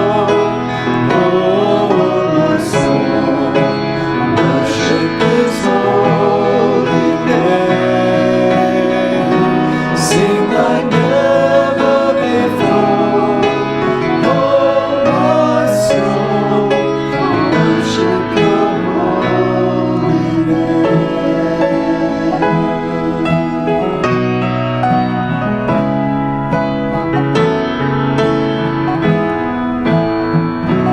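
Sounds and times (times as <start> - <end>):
instrumental accompaniment: 0.0 - 30.9
voices singing church music: 0.0 - 30.9.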